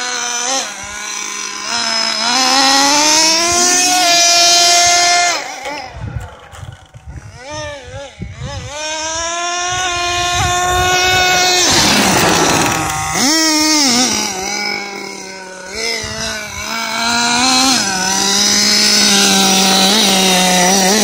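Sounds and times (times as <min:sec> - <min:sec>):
toy truck motor buzzing: 0:00.0 - 0:21.0.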